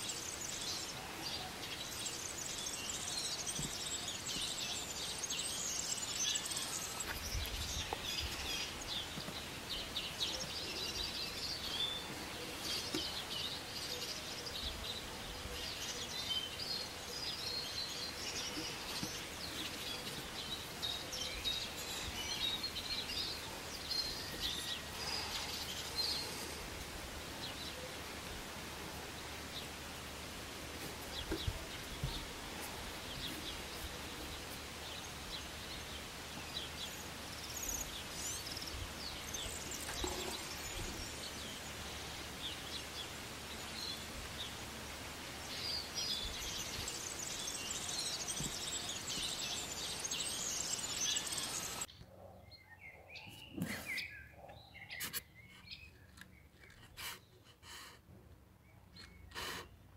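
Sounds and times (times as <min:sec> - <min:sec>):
birds chirping: 0:00.0 - 0:57.6, 0:58.5 - 0:59.9
outdoor background hiss: 0:00.0 - 0:59.9.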